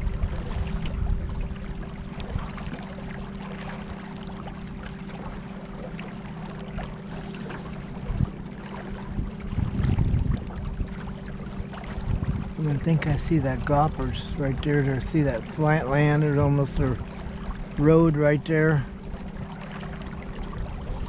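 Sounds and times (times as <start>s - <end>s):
low rumbling noise: 0.0s - 4.5s, 6.0s - 21.0s
boat motor droning: 0.0s - 21.0s
rushing water: 0.0s - 21.0s.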